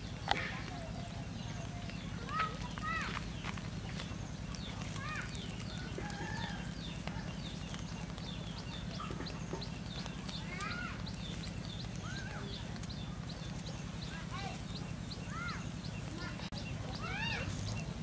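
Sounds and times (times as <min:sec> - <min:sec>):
birds chirping: 0:00.0 - 0:18.0
steady low hum: 0:00.0 - 0:18.0.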